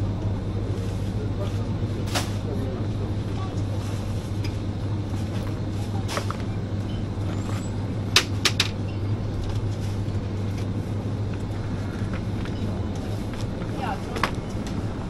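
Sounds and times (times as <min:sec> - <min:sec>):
shop noise: 0:00.0 - 0:15.0
steady low hum: 0:00.0 - 0:15.0.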